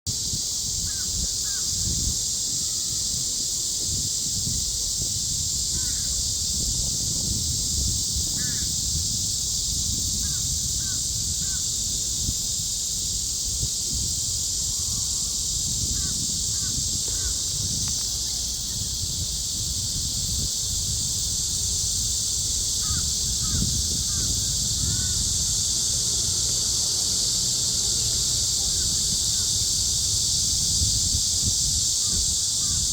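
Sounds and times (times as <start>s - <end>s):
cicadas droning: 0.1s - 32.9s.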